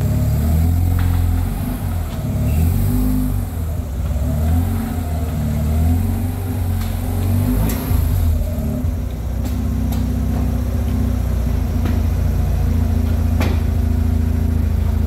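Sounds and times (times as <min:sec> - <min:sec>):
rotary engine idling: 0:00.0 - 0:15.0.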